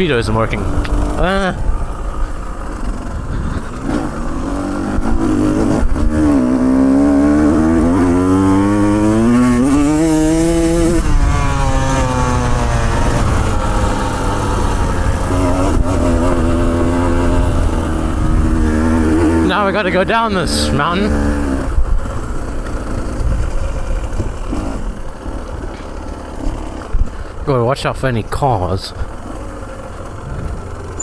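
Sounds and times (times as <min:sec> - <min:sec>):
two-stroke motorcycle engine: 0:00.0 - 0:31.0.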